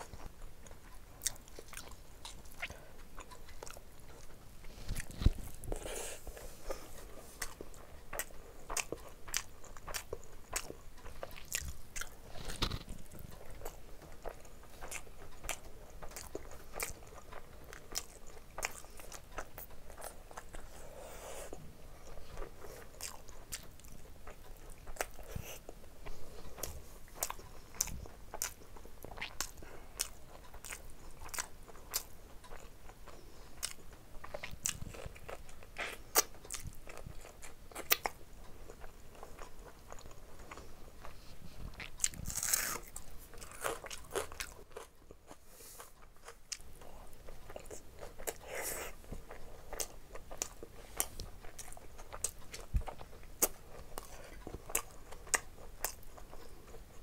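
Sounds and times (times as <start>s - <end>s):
person chewing wet mouth sounds: 0.0s - 57.0s.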